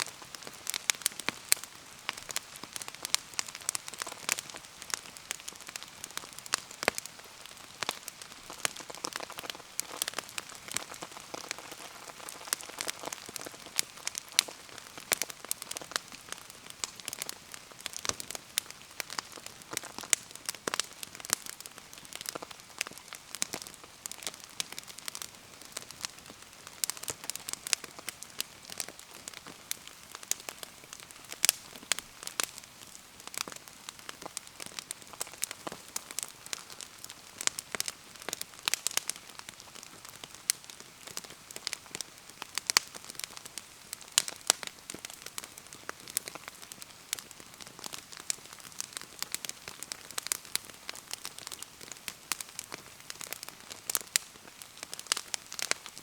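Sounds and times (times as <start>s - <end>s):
bonfire crackling: 0.0s - 56.0s
rain pattering: 0.0s - 56.0s.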